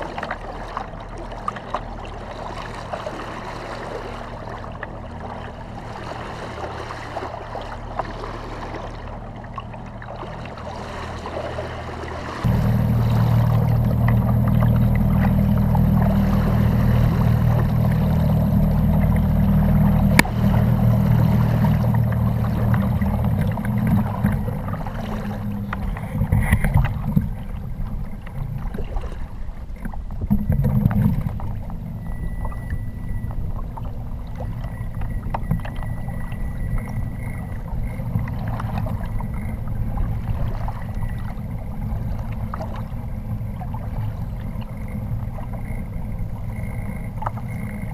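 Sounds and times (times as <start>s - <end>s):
water and wind rumble: 0.0s - 47.9s.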